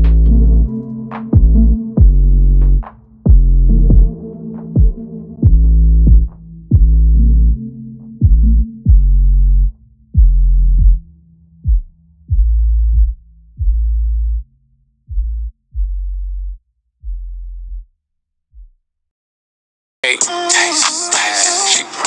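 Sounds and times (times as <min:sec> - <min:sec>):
deep electronic bass notes: 0:00.0 - 0:18.8.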